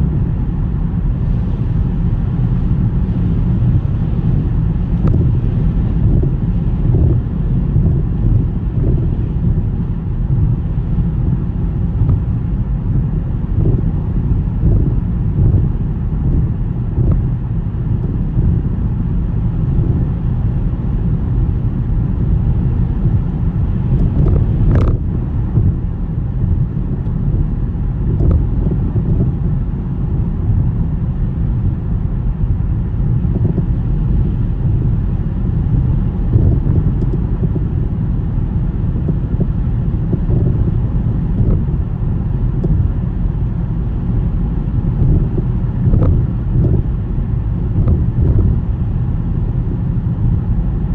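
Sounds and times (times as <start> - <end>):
car road and engine rumble: 0.0 - 50.9.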